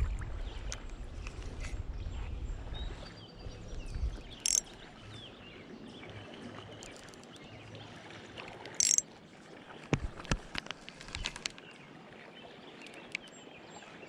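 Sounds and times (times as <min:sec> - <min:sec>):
river water running: 0:02.4 - 0:14.0.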